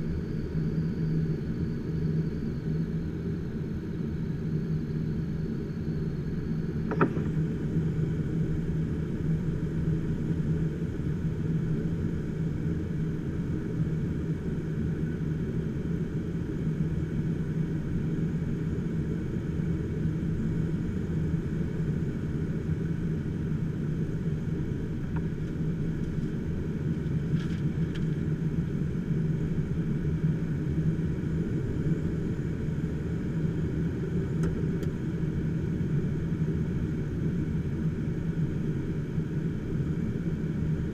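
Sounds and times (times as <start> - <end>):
aircraft engine and propeller: 0.0 - 40.9.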